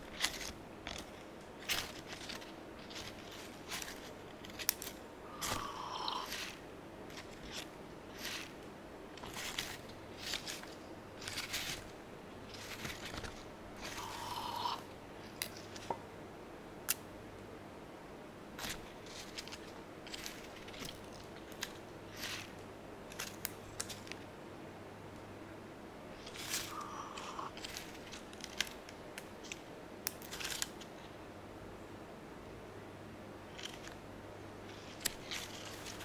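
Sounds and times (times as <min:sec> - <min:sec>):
leaves rustling and crackling: 0:00.0 - 0:16.0, 0:18.5 - 0:24.4, 0:26.1 - 0:31.2, 0:33.4 - 0:36.0
faint low hum: 0:00.0 - 0:36.0.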